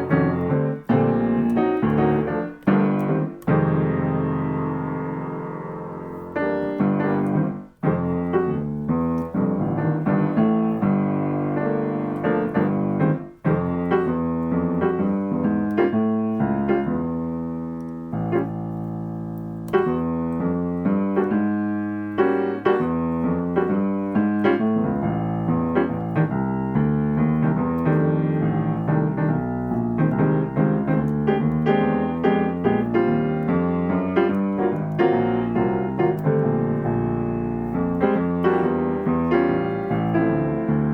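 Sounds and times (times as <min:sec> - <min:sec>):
jazz piano chords: 0:00.0 - 0:40.9.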